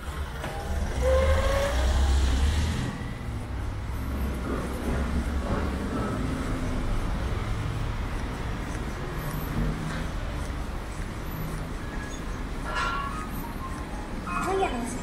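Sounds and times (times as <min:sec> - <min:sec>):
vehicle passing with engine rumble: 0:00.0 - 0:14.2
steady traffic hum: 0:00.0 - 0:15.0.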